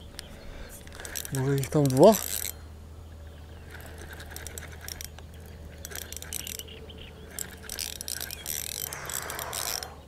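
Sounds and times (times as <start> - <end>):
fishing reel clicking and ratcheting: 0.8 - 2.6, 3.6 - 10.0.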